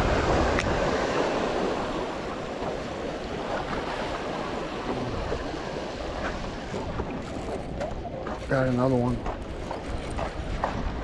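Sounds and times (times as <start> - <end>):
waves breaking against boulders: 0.0 - 11.0.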